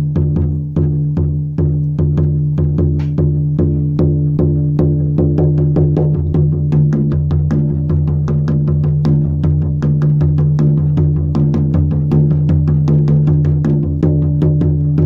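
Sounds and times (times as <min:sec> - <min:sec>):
drum beaten in deep strokes: 0:00.0 - 0:15.0.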